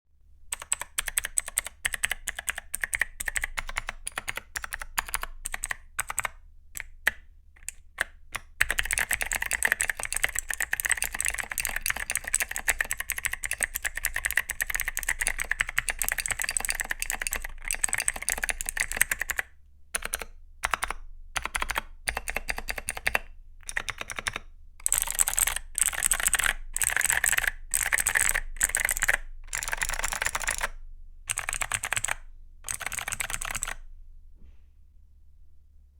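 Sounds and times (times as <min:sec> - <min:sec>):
typing on clicky mechanical keyboard: 0:00.5 - 0:33.8.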